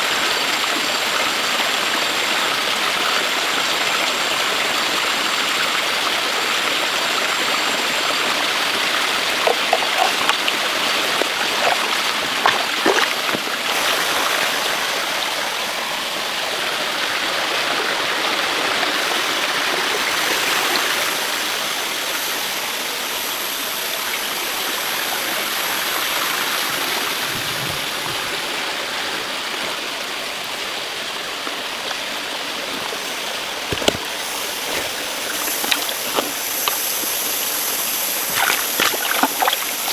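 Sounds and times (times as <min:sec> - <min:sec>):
running water rushing: 0:05.8 - 0:39.9.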